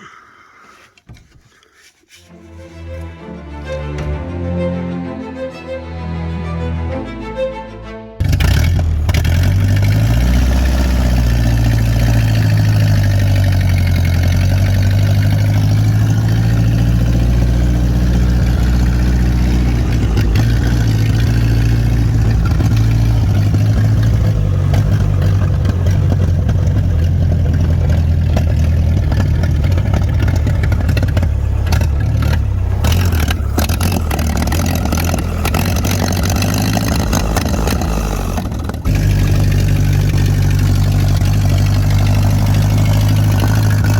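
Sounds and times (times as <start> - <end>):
car engine running: 8.2 - 43.9.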